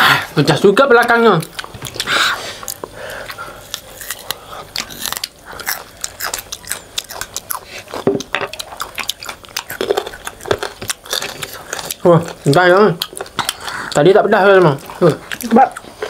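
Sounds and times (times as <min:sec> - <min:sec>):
crunching fried chicken: 0:00.0 - 0:16.0.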